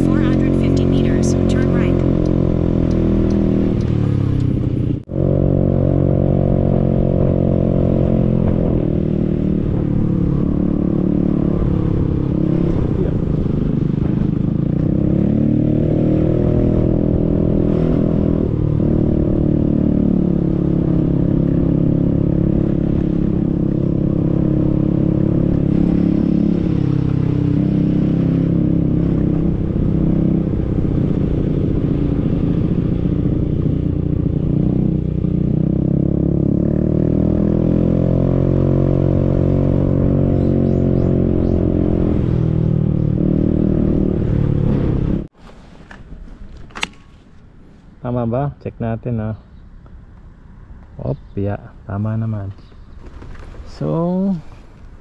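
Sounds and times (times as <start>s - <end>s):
motorcycle engine revving: 0.0s - 45.4s.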